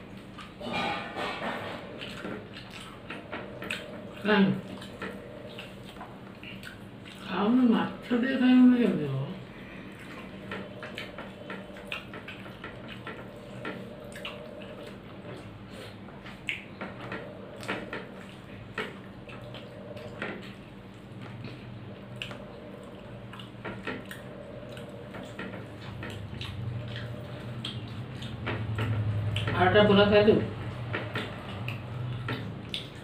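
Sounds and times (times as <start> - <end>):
chewing: 0.0 - 7.3, 9.4 - 29.6, 30.5 - 33.0
steady low hum: 0.0 - 33.0.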